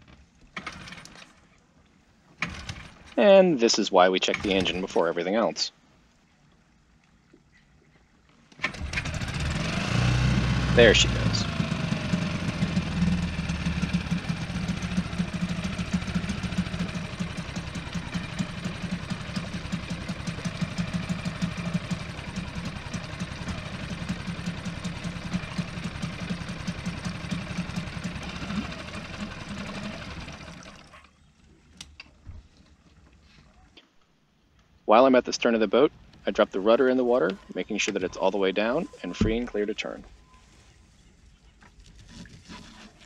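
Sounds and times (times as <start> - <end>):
outboard motor idling: 0.5 - 1.6, 2.3 - 3.4, 4.0 - 5.4, 7.7 - 33.7, 36.0 - 43.0.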